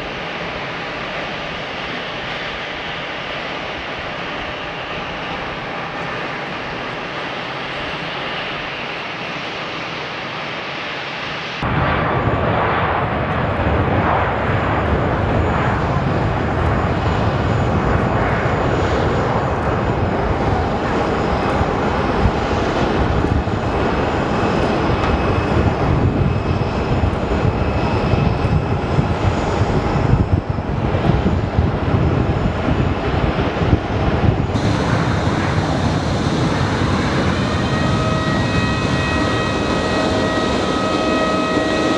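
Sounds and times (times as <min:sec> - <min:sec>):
jet engines at takeoff thrust: 0:00.0 - 0:41.9.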